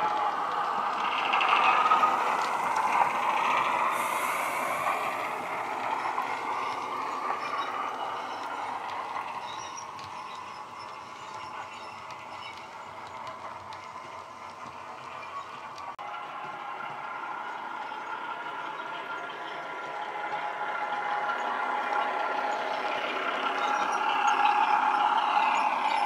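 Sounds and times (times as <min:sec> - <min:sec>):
model train diesel engine sound: 0:00.0 - 0:26.0.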